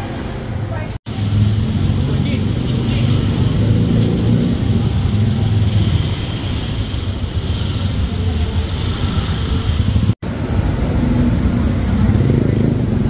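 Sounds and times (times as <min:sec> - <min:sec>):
cars and motorcycles rumbling: 0:00.0 - 0:13.0.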